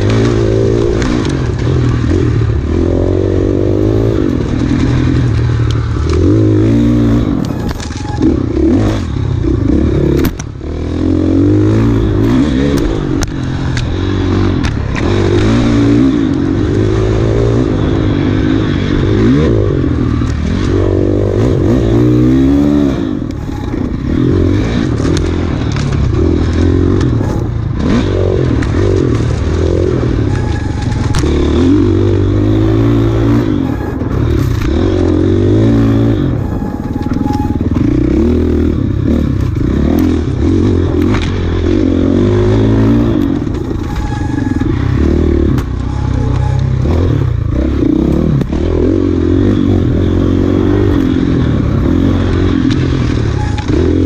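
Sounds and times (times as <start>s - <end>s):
dirt bike engine running hard: 0.0s - 54.0s
bike clicks and clatter: 4.2s - 54.0s.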